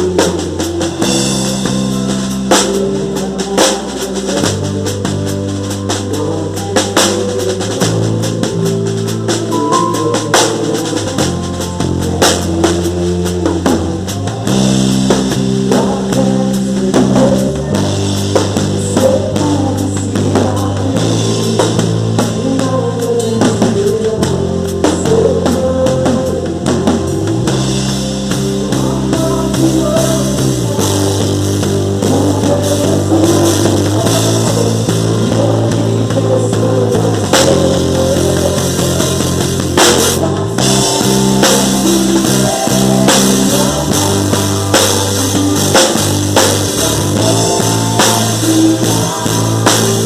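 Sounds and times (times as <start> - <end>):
live band playing worship song: 0.0 - 50.0.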